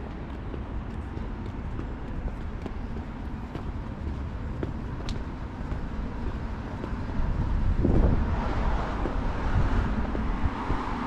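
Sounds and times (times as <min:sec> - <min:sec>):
light road traffic: 0:00.0 - 0:11.0
wind buffeting microphone: 0:00.0 - 0:11.0.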